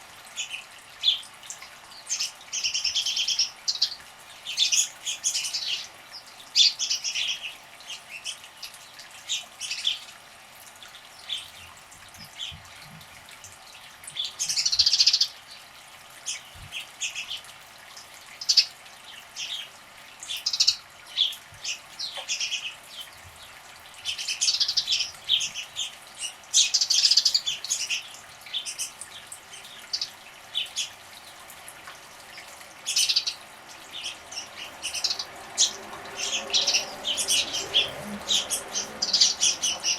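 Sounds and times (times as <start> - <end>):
splashing in bird-bath water: 0.0 - 39.9
small birds chirping: 0.3 - 10.1, 14.2 - 15.6, 18.3 - 39.9.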